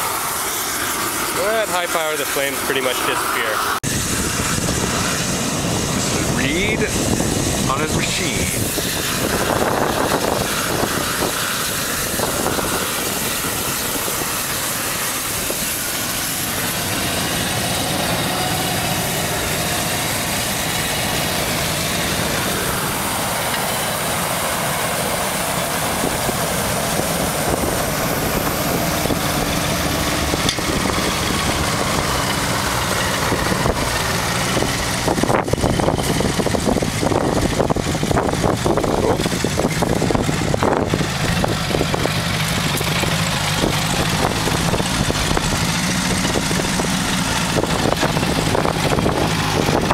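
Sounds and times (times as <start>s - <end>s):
flame weeder roaring: 0.0s - 49.9s
tractor engine running: 0.0s - 49.9s.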